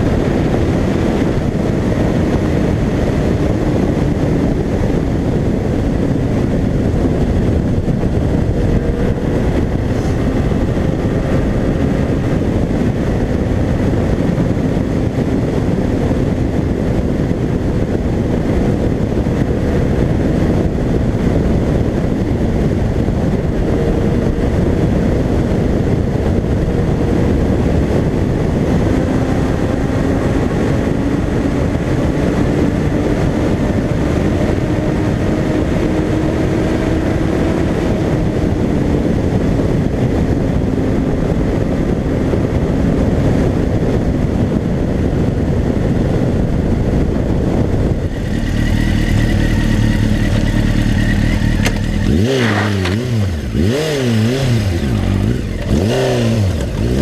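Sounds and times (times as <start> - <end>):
motorcycle engine: 0.0 - 57.0
wind rush: 0.0 - 57.0.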